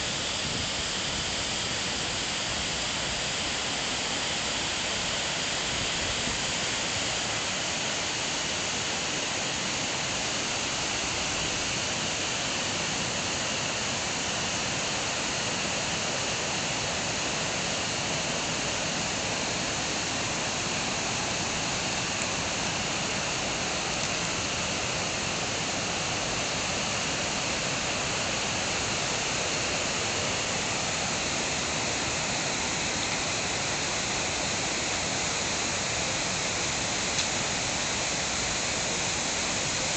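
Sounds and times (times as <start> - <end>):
waterfall rushing water: 0.0 - 39.9.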